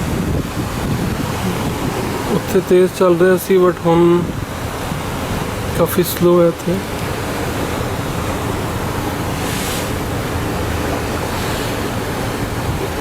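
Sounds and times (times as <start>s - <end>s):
wind on microphone: 0.0s - 3.3s, 4.0s - 5.8s, 6.8s - 13.0s
sea water washing past ship: 0.0s - 13.0s.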